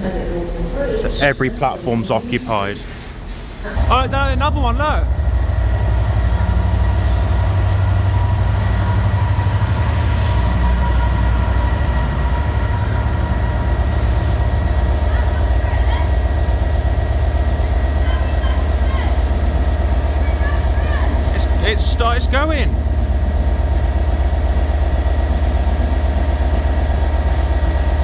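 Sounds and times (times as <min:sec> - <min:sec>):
diesel train engine idling: 0:00.0 - 0:28.0.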